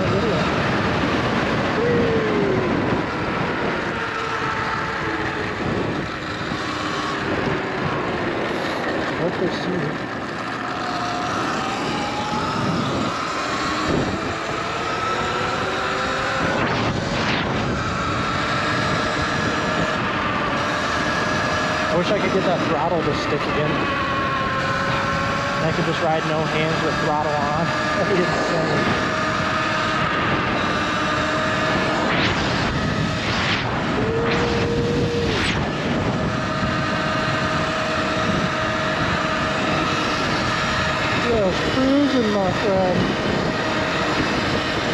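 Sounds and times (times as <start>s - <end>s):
electric motor whine: 0.0s - 44.9s
wind rushing on microphone: 0.0s - 44.9s.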